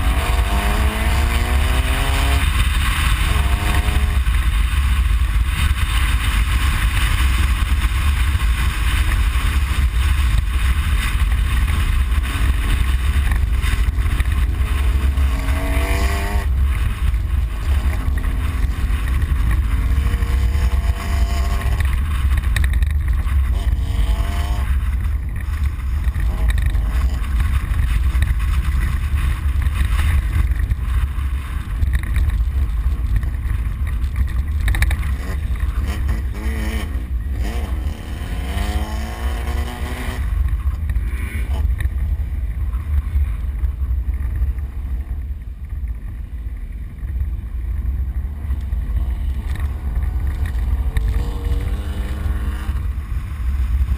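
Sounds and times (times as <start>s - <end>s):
heavy low rumble: 0.0s - 53.9s.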